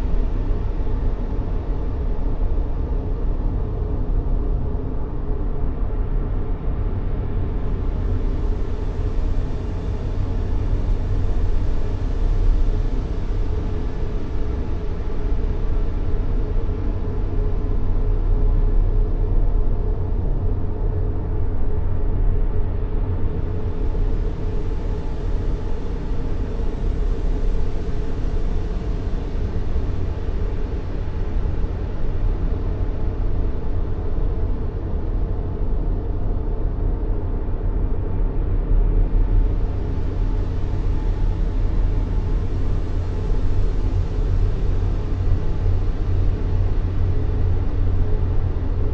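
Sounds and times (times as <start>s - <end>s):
deep rumbling white noise: 0.0s - 48.9s.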